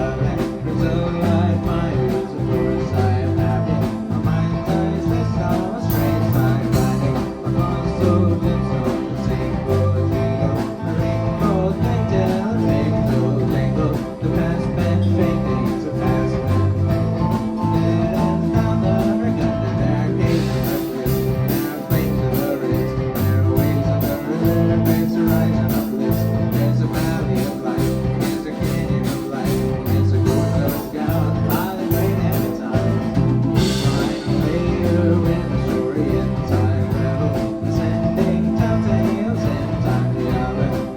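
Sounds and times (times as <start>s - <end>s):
live band playing: 0.0s - 40.9s.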